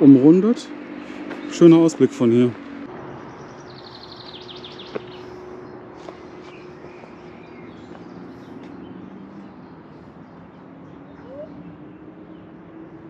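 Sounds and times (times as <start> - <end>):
birds chirping: 0.0 - 13.0
distant traffic: 0.0 - 13.0.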